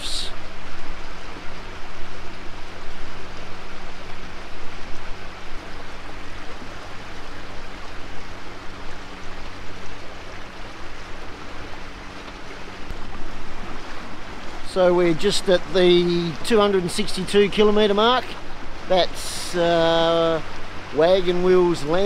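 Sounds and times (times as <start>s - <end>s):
outboard motor running: 0.0s - 22.0s
water rushing: 0.0s - 22.0s
wind: 0.0s - 22.0s.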